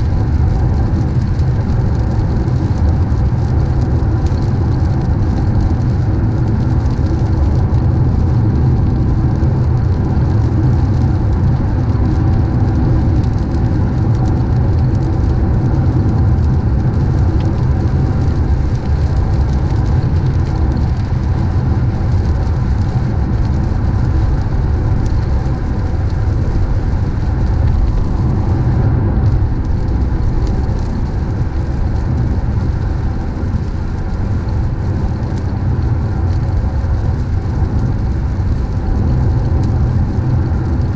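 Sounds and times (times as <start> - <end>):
car rumble from inside cabin: 0.0 - 35.0.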